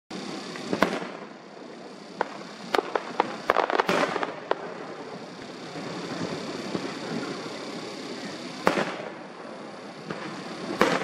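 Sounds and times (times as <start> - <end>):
firework shells bursting: 0.2 - 11.0.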